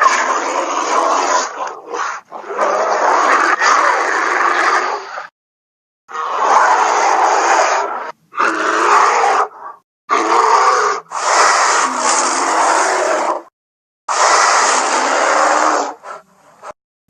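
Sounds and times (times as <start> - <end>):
bear roaring and growling: 0.0 - 5.3, 6.1 - 13.5, 14.1 - 16.7.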